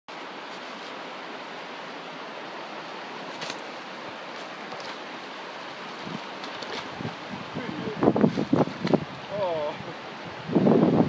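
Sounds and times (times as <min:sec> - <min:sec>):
stream flowing over stones: 0:00.1 - 0:11.0.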